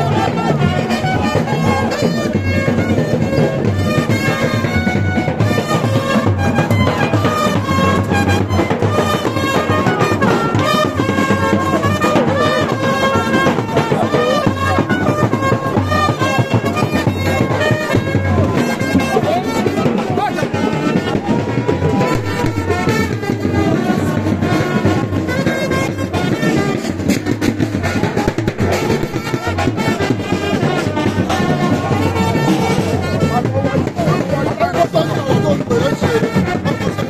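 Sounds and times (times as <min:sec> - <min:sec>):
brass band playing: 0:00.0 - 0:37.0
drums: 0:00.0 - 0:37.0
trumpets holding notes: 0:00.0 - 0:37.0.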